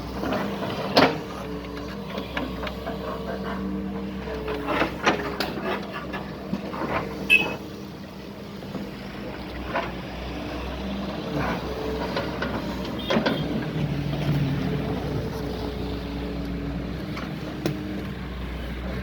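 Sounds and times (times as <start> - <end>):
excavator diesel engine working: 0.0 - 19.0.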